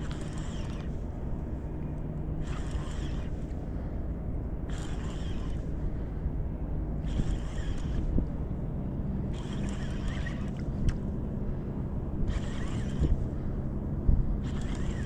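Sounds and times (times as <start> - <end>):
moving water around boat: 0.0 - 15.0
wind: 0.0 - 15.0.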